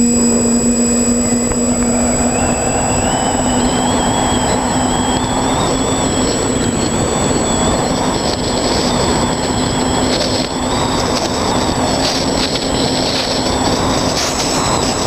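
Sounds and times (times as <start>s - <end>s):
drone motors humming and whining: 0.0s - 15.0s
wind noise on microphone: 0.0s - 15.0s.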